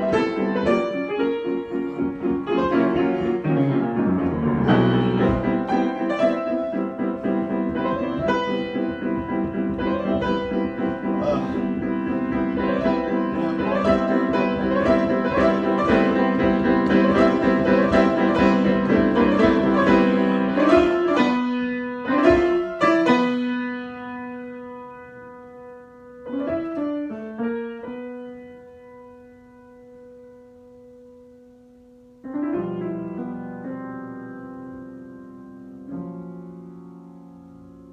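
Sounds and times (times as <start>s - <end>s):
solo piano improvisation: 0.0s - 37.9s.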